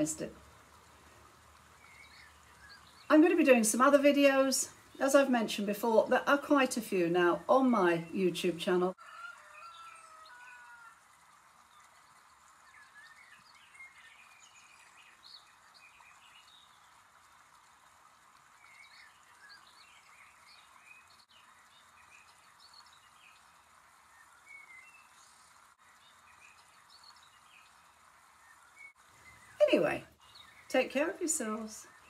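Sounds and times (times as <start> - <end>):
steady hiss: 0.0 - 8.8, 10.3 - 32.0
small birds chirping: 0.0 - 10.7, 11.4 - 32.0.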